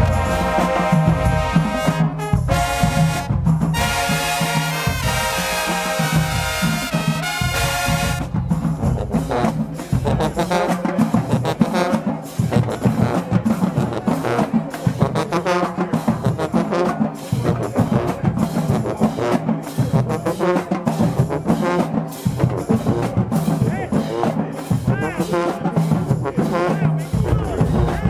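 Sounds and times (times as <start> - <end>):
marching band brass: 0.0 - 28.0
steady drum beat: 0.0 - 28.0.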